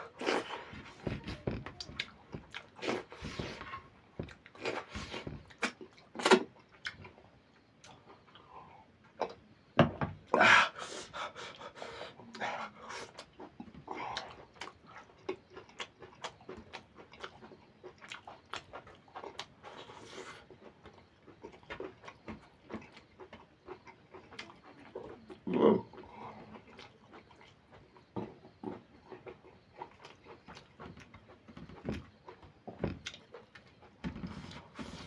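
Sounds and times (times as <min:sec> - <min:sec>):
wet chewing and lip-smacking: 0:00.1 - 0:08.5, 0:12.3 - 0:35.0.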